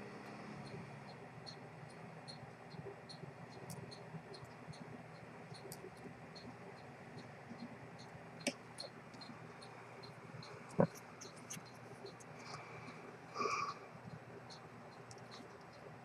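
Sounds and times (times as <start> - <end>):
clockwork ticking: 0.0 - 16.0.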